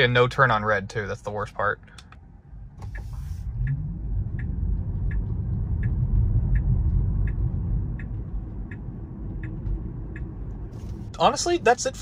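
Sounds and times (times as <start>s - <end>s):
road and tyre rumble: 0.0s - 12.0s
turn signal ticking: 1.8s - 12.0s.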